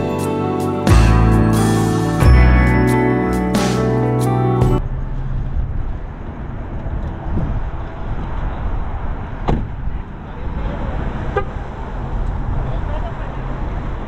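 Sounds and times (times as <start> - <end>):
road vehicle rumble and hiss: 0.0 - 14.0.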